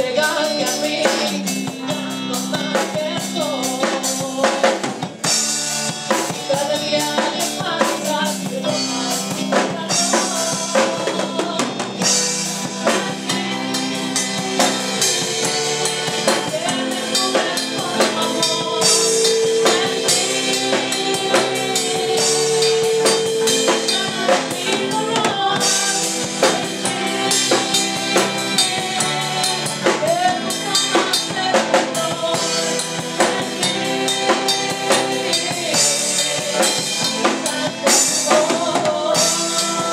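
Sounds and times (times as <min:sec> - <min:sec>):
band music: 0:00.0 - 0:39.9
drum kit beat: 0:00.0 - 0:39.9.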